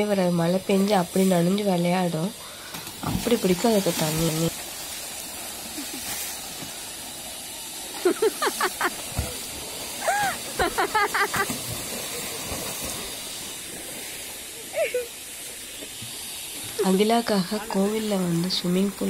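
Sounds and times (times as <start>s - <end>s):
water pouring and splashing: 0.0s - 19.0s.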